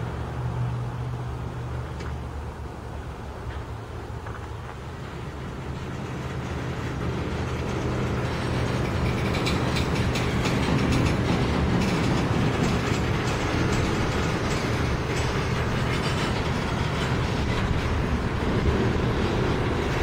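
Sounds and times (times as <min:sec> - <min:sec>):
freight train rumbling past: 0:00.0 - 0:20.0
rattling and clanking of train cars: 0:03.4 - 0:20.0.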